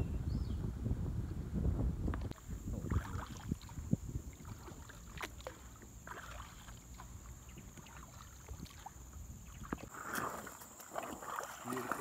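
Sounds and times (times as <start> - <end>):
kayak paddle splashing in water: 2.2 - 12.0.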